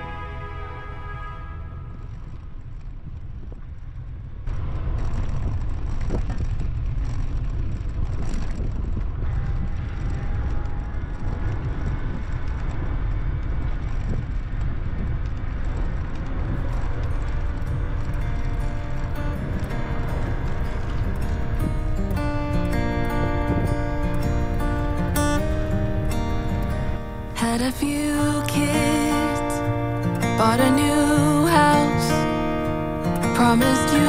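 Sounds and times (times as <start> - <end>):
bicycle road rumble: 0.0 - 34.0
wind buffeting microphone: 0.0 - 34.0.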